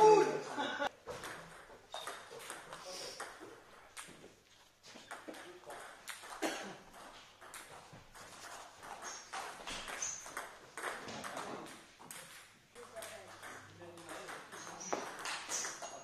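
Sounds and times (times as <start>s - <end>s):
table tennis balls clicking: 1.1s - 4.4s, 5.0s - 16.0s.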